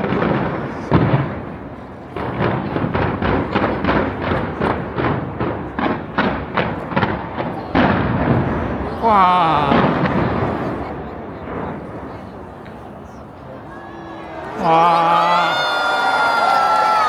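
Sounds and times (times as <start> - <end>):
fireworks exploding: 0.0 - 13.7.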